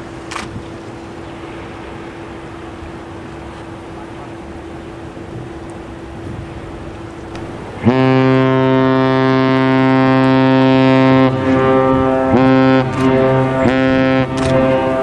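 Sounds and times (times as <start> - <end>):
ship's horn blasts: 1.4 - 15.0.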